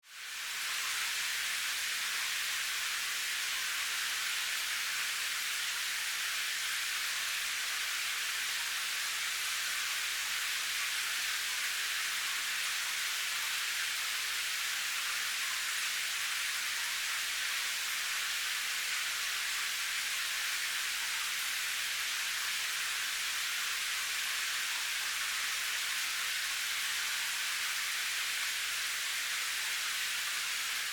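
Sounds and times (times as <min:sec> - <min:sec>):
steady rainfall: 0:00.2 - 0:30.9.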